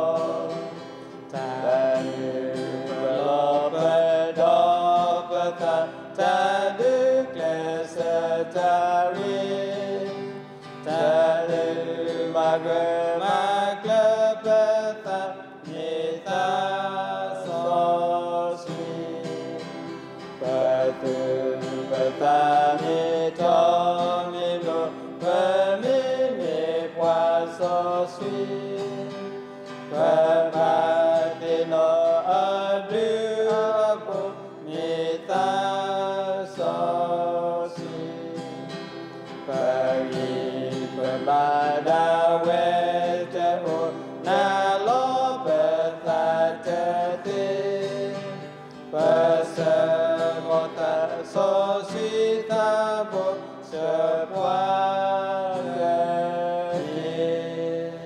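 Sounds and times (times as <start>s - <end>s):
men singing a hymn: 0.0s - 58.0s.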